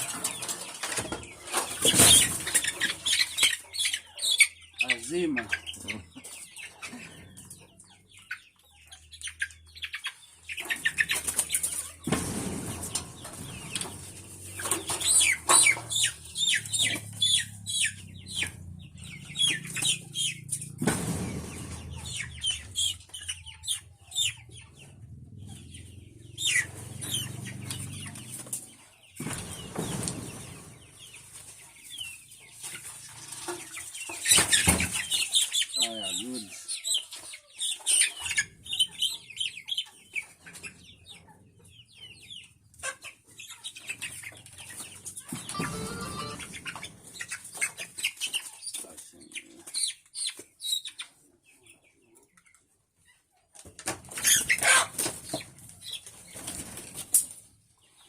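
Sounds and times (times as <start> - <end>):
chickens clucking and peeping: 0.0 - 58.0.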